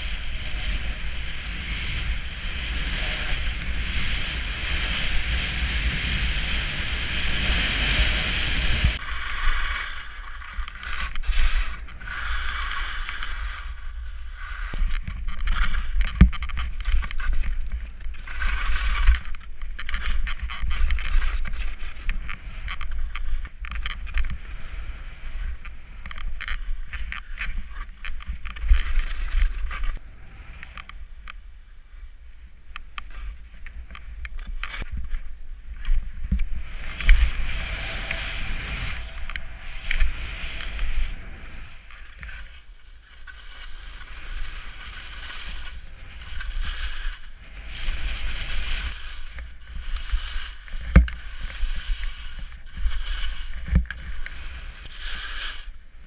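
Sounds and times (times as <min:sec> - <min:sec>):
skis scraping over snow: 0:00.0 - 0:56.0.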